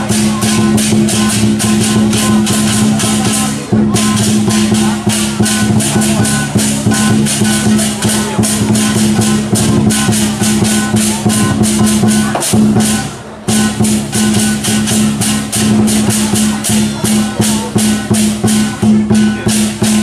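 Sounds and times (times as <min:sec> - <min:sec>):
cymbals clashing: 0:00.0 - 0:20.0
drum: 0:00.0 - 0:20.0.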